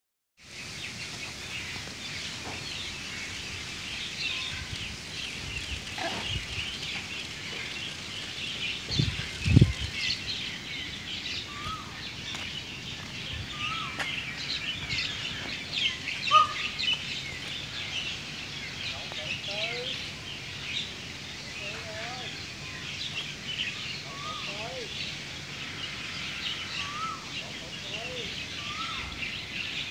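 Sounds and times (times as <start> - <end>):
small birds chirping: 0.4 - 29.9
short low bird calls: 2.2 - 29.9.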